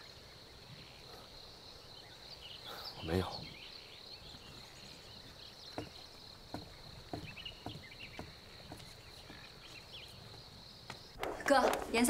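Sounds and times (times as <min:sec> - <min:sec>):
bird chirps: 0:00.0 - 0:11.2.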